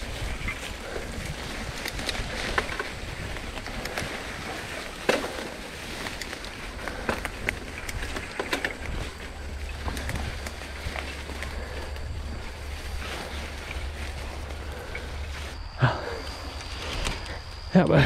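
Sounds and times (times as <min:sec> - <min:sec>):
bicycle clicks and rattles: 0:00.0 - 0:15.6
wind rumble on microphone: 0:00.0 - 0:18.0.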